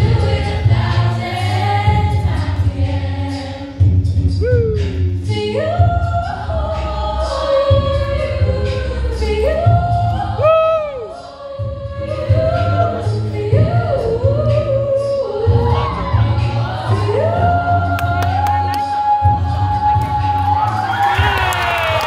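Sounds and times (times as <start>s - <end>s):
choir singing: 0.0s - 3.9s, 5.3s - 22.0s
pulsing low bass voices: 0.0s - 21.0s
girl singing lead melody: 3.4s - 21.4s.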